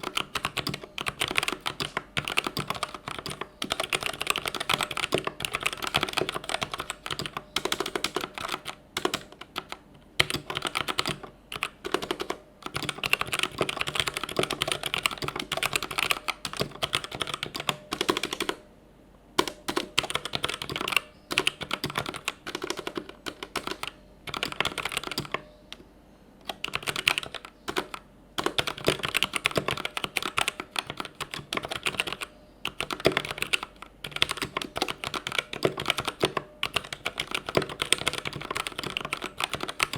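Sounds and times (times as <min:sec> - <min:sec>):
mechanical keyboard typing: 0:00.0 - 0:18.6, 0:19.4 - 0:25.8, 0:26.4 - 0:39.9.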